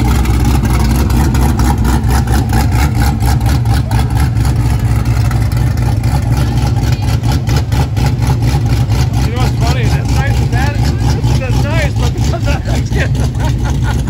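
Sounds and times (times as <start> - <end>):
deep car exhaust pulsing: 0.0 - 14.0.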